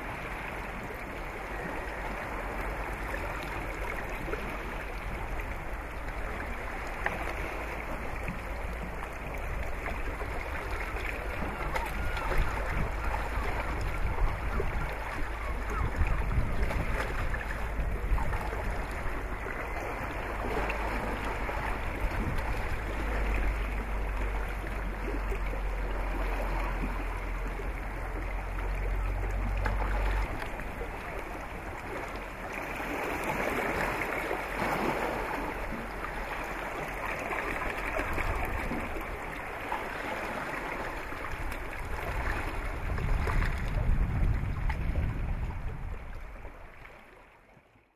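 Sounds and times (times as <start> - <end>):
wind rumbling on microphone: 0.0 - 47.2.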